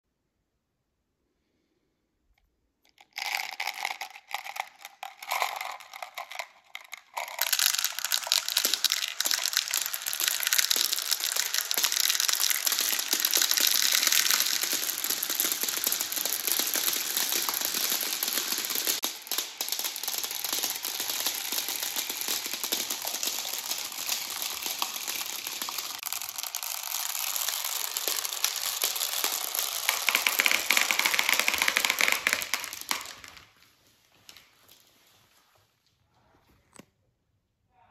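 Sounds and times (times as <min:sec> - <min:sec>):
plastic beads rattling down a track: 0:02.8 - 0:33.6.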